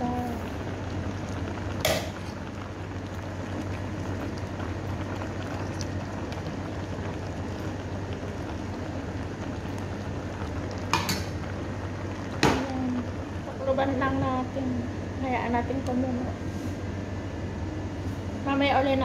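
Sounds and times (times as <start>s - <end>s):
broth boiling in a pot: 0.0s - 19.0s
low steady hum: 0.0s - 19.0s.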